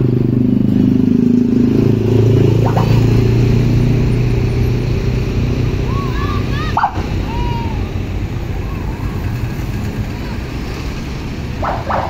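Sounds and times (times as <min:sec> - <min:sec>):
bus engine passing: 0:00.0 - 0:12.0
motorcycle engines passing: 0:00.0 - 0:12.0.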